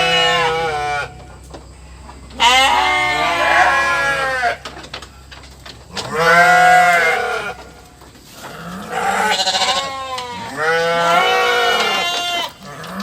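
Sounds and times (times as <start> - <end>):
livestock bleating: 0.0 - 1.2, 2.3 - 4.7, 5.9 - 13.0.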